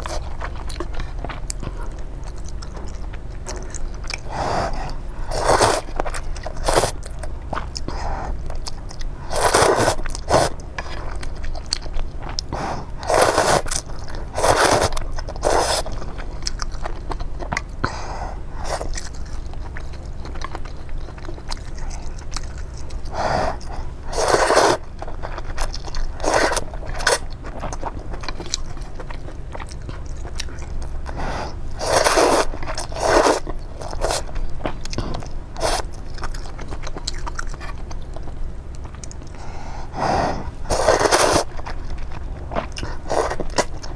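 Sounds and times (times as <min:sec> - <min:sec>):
biting and chewing: 0:00.0 - 0:18.0, 0:18.6 - 0:39.4, 0:40.4 - 0:43.9
steady low hum: 0:00.0 - 0:43.9.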